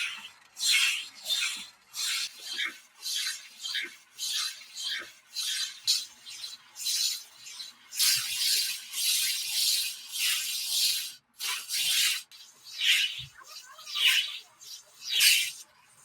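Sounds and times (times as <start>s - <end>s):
hand filing or sanding strokes: 0.0s - 15.7s.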